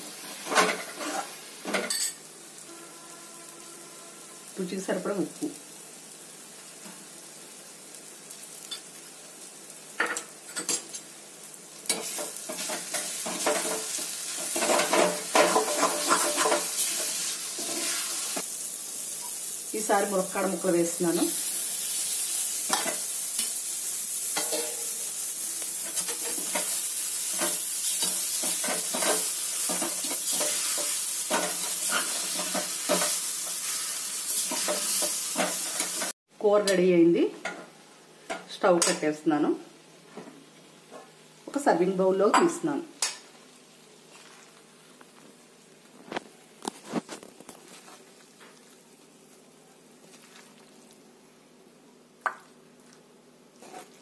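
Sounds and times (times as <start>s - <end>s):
frying sizzle: 0.0s - 54.0s.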